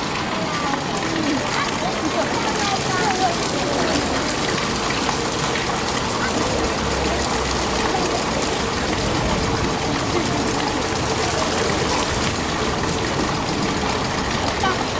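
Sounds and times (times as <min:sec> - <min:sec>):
faint voices of people: 0:00.0 - 0:14.9
running water rushing: 0:00.0 - 0:14.9.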